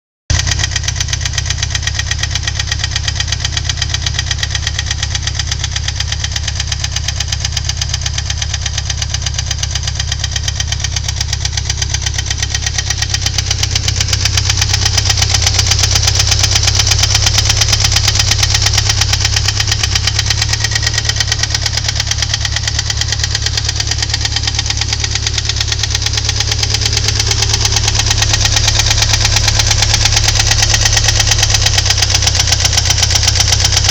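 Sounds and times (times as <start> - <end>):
car engine running: 0.3 - 33.9
fast even engine knocking: 0.5 - 33.9.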